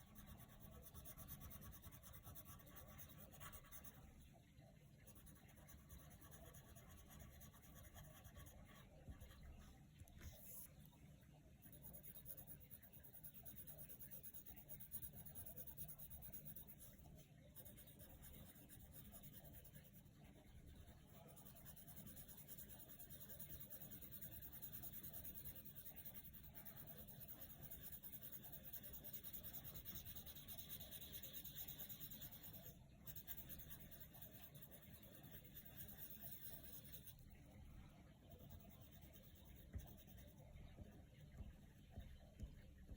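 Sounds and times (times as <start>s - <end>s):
coloured pencils scratching paper: 0.0s - 4.2s, 5.0s - 10.7s, 11.7s - 37.3s, 38.3s - 42.9s.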